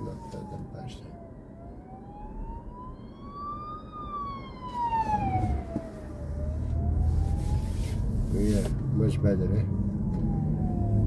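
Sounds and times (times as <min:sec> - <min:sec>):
ambulance siren wailing: 0:00.0 - 0:08.8, 0:09.4 - 0:11.0
low road noise: 0:00.0 - 0:11.0.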